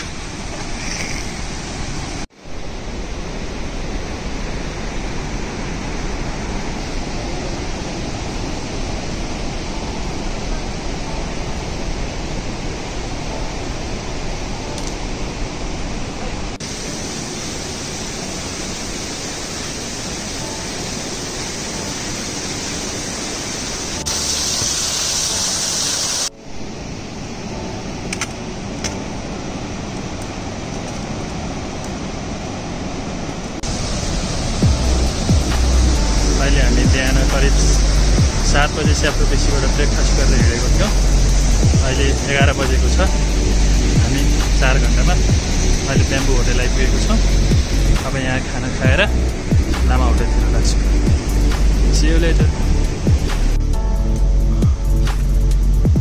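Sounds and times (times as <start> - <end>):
fast river rushing: 0.0 - 56.0.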